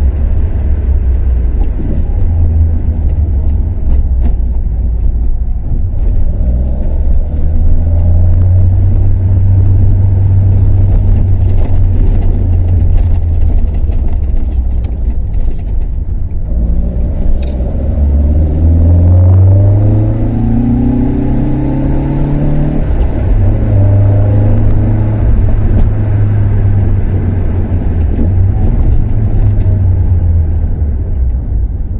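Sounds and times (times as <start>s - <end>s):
car engine revving: 0.0s - 15.3s, 16.2s - 31.9s.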